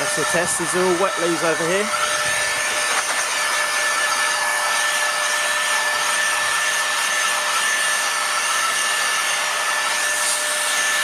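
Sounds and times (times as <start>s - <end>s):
air duster fan whining: 0.0s - 11.0s.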